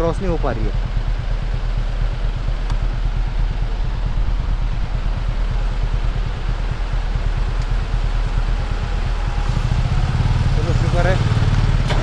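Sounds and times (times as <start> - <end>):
bus engine rumble: 0.0 - 12.0
road and cabin noise: 0.0 - 12.0.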